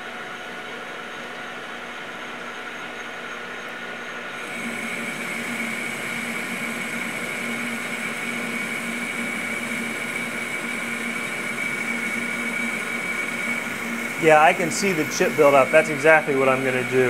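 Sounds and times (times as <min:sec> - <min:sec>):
metal lathe whining: 0:00.0 - 0:17.0.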